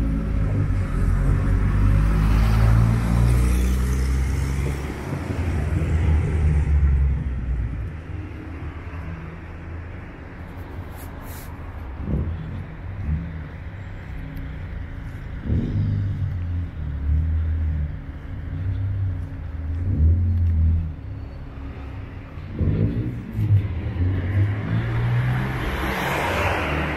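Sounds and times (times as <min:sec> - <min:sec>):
vehicles passing: 0:00.0 - 0:26.9.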